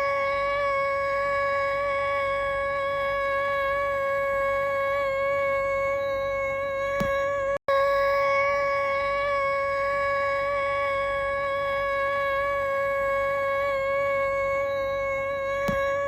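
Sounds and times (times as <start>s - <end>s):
steady pitched tone: 0.0s - 16.0s.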